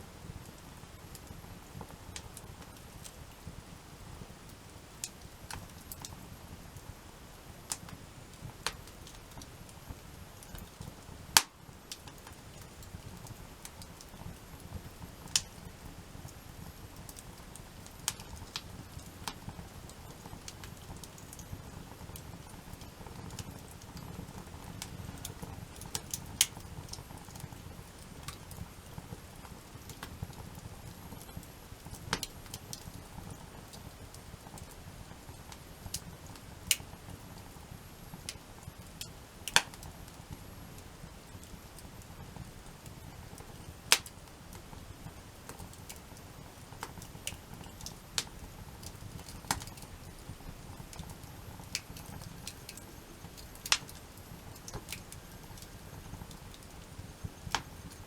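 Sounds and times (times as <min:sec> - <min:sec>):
campfire crackling and popping: 0:00.1 - 0:58.0.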